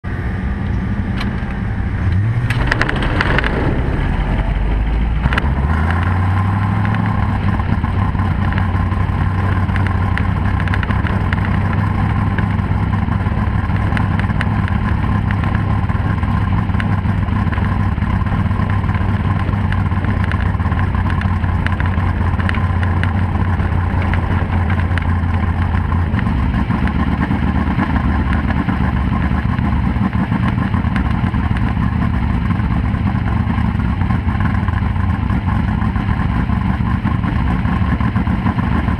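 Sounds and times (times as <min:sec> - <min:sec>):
race car engine idling and revving: 0:00.0 - 0:38.9.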